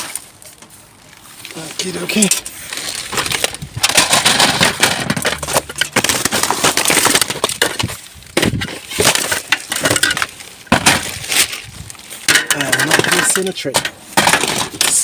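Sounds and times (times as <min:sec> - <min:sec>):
rubbish crunching and crackling: 0:00.0 - 0:15.0
items clinking: 0:01.8 - 0:15.0.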